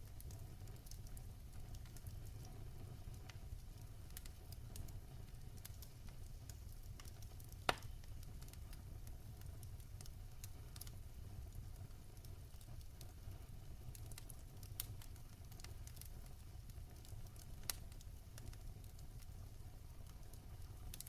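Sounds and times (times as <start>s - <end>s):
fire crackling in fireplace: 0.0s - 21.0s
fire popping: 0.0s - 21.0s.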